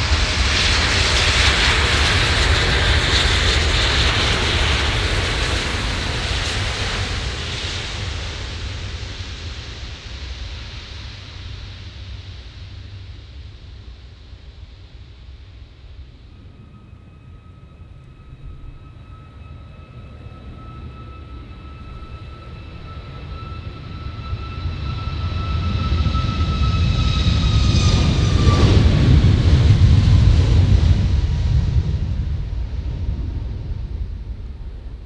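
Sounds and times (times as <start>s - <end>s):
jet engines at takeoff power: 0.0s - 35.0s.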